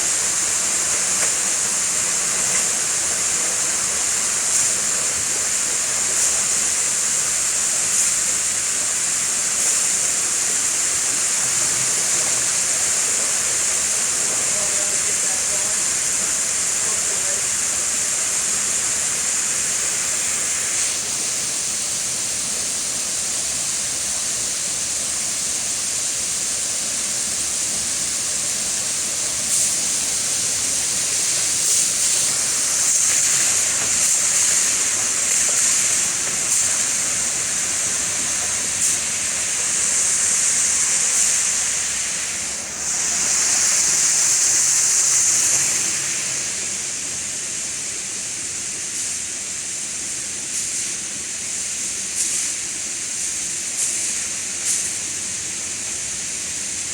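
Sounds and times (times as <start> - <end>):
water rushing in a tank: 0.0 - 56.9.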